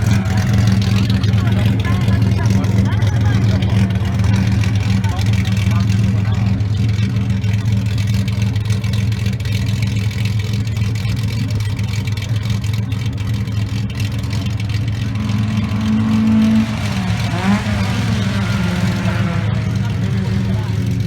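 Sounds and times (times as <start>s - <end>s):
car engines through loud exhausts: 0.0s - 21.0s
engine revving: 0.0s - 21.0s.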